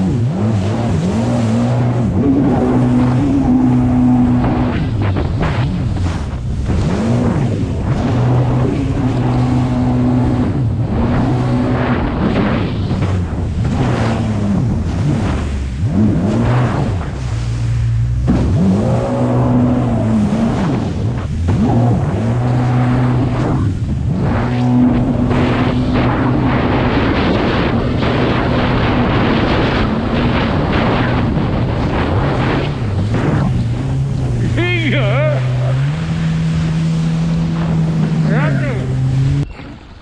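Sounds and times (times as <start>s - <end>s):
jet ski engine running: 0.0s - 40.0s
wind noise on microphone: 0.0s - 40.0s.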